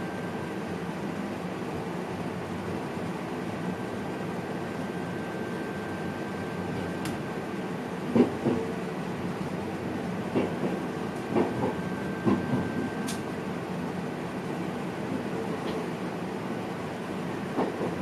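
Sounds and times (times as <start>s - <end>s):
electric train running noise: 0.0s - 18.0s.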